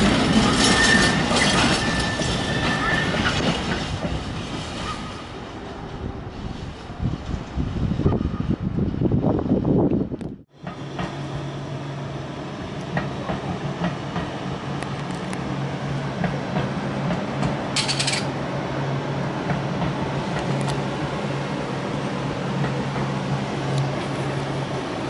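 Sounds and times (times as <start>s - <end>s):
train low hum: 0.0s - 25.0s.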